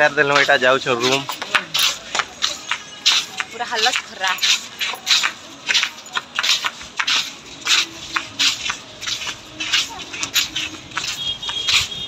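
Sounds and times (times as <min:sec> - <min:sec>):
faint voices: 0:00.0 - 0:12.0
footsteps on sandy street: 0:00.0 - 0:12.0.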